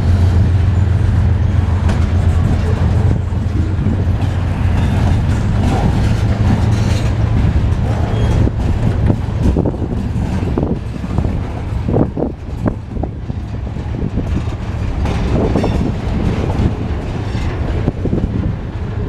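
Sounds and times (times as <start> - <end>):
train low rumble: 0.0 - 19.0
train wheels clacking on rail joints: 0.0 - 19.0.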